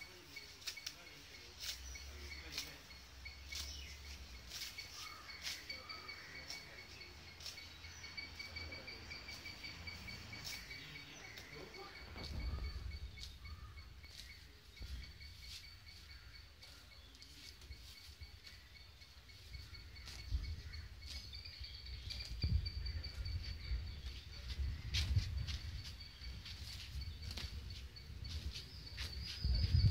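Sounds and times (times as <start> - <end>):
high insect trill: 0.0 - 29.9.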